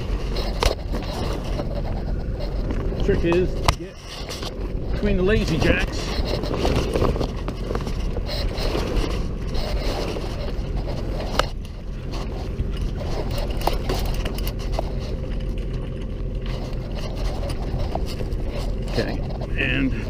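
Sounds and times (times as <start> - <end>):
boat engine droning: 0.0 - 20.0
sail and lines scraping: 0.0 - 20.0.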